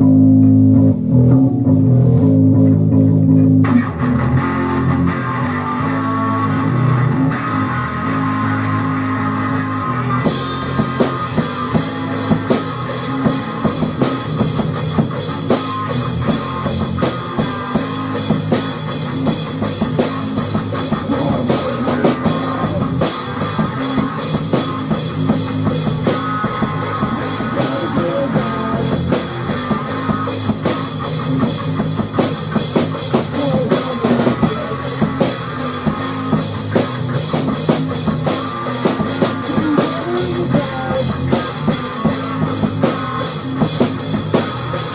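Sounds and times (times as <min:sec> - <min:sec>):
guitar: 0:00.0 - 0:44.9
rock drum kit beat: 0:00.0 - 0:44.9.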